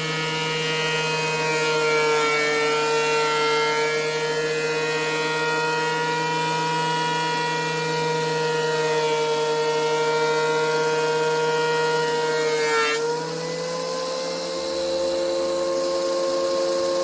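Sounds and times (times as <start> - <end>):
thickness planer whining: 0.0 - 17.0.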